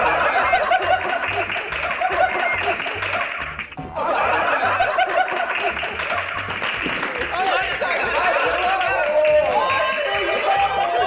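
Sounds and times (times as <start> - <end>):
background music with steady beat: 0.0 - 11.0
young men laughing: 0.0 - 11.0.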